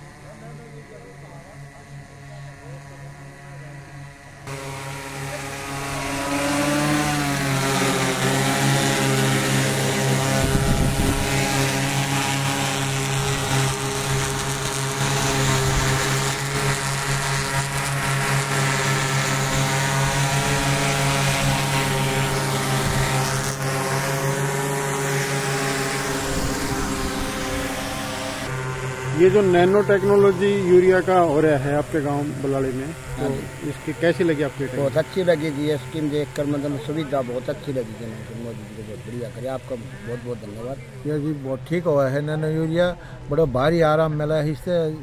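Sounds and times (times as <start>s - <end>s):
drone propellers humming: 0.0s - 45.0s.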